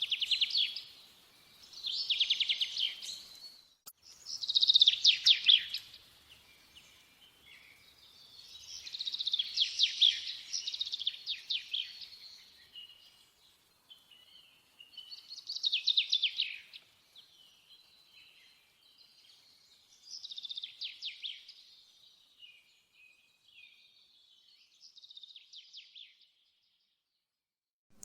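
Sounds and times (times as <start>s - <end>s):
songbird chirping: 0.0s - 27.0s.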